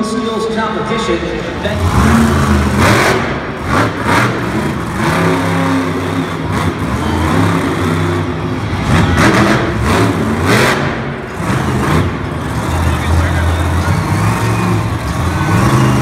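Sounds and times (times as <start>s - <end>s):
monster truck engine revving: 1.3s - 16.0s.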